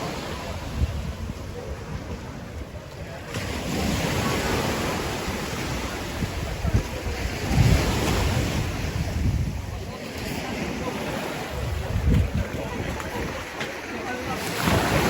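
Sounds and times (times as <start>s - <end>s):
sea water splashing: 0.0s - 15.0s
wind buffeting microphone: 0.0s - 15.0s.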